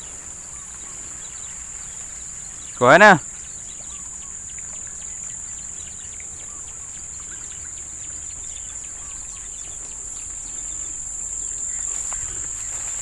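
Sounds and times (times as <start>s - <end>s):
faint bird chirps: 0.0s - 13.0s
high-pitched insect chorus: 0.0s - 13.0s.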